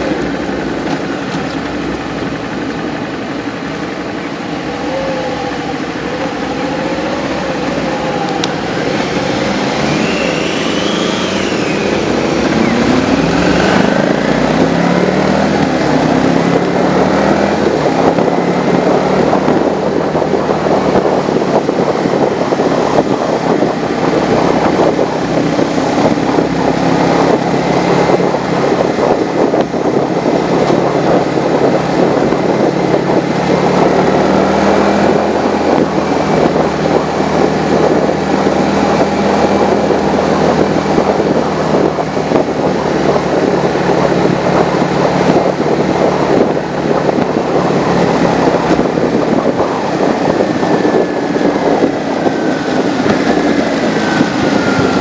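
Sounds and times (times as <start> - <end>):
motorcycle engine cruising: 0.0 - 55.0
road noise: 0.0 - 55.0
wind noise: 0.0 - 55.0.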